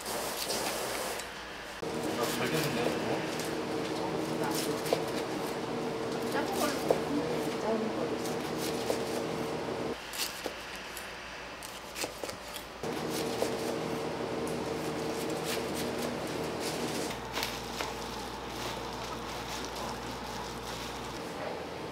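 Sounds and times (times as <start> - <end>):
steady machine hum: 1.4 - 10.0, 12.8 - 21.9.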